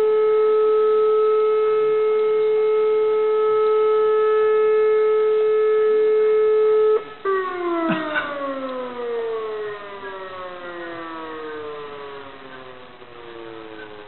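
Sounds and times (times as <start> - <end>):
fire alarm siren: 0.0 - 14.0.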